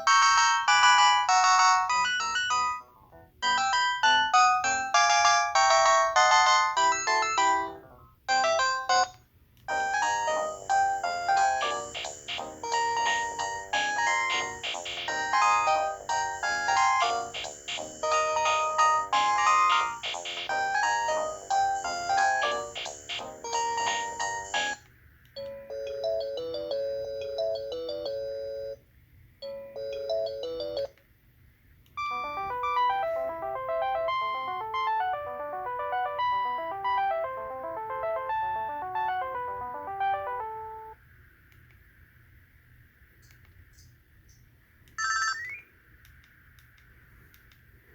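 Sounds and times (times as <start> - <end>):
cordless phone ringtone melody: 0.0 - 7.7, 8.3 - 24.8, 25.4 - 28.8, 29.4 - 30.9, 32.0 - 41.0, 45.0 - 45.6.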